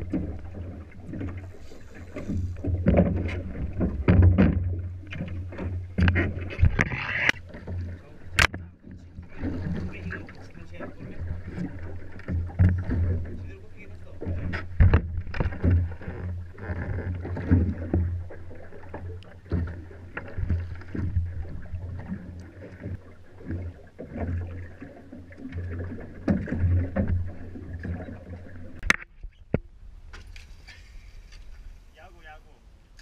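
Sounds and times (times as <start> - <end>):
water splashing against boat hull: 0.0 - 32.3.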